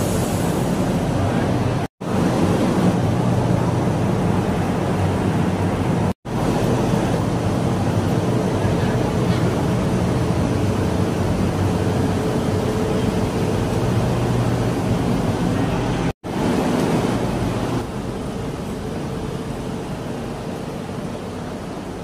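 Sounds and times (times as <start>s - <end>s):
vehicle rumble and hiss: 0.0s - 22.0s.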